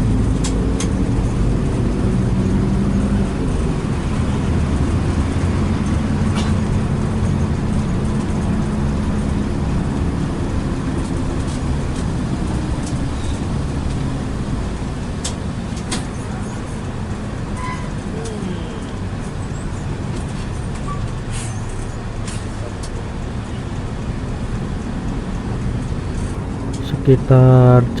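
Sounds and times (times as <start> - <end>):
bus engine drone: 0.0 - 28.0
road and tyre noise: 0.0 - 28.0.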